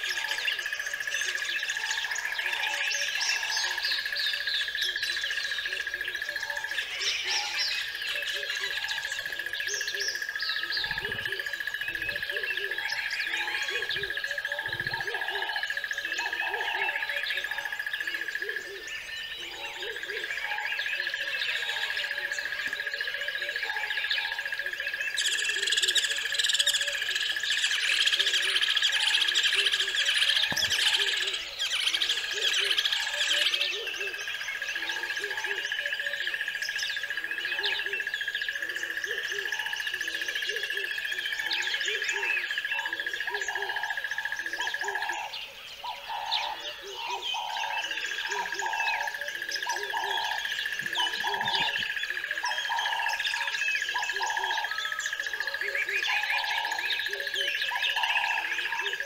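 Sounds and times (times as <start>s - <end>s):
birds chirping and singing: 0.0s - 59.0s
low hooting calls: 0.0s - 59.0s.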